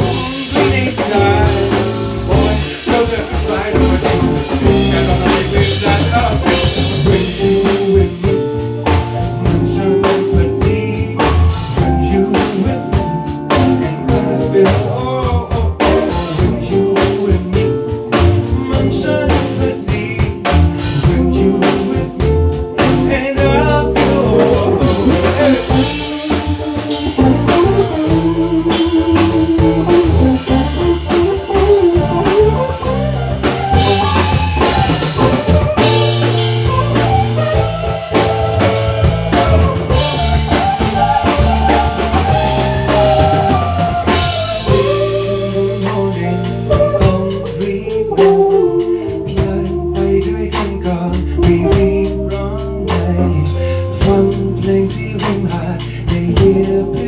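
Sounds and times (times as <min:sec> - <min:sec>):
band playing pop music: 0:00.0 - 0:57.0
person singing: 0:00.0 - 0:57.0.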